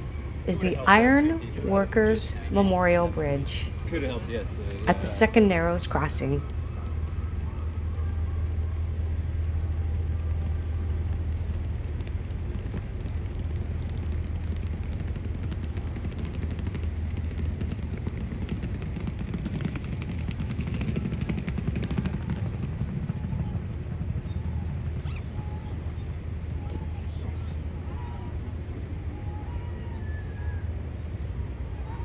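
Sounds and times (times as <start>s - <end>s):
turboprop engine droning: 0.0s - 32.0s.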